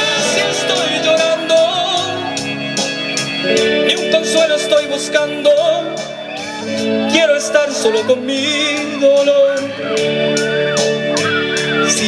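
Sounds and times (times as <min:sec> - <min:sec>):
live band playing latin ballad: 0:00.0 - 0:12.0
steady drum beat: 0:00.0 - 0:12.0.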